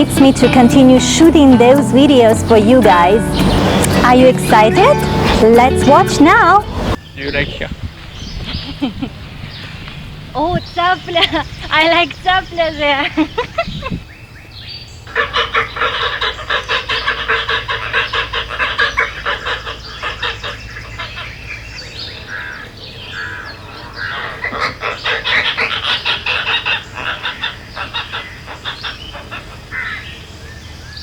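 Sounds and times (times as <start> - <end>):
birds calling rapidly: 0.0 - 31.0.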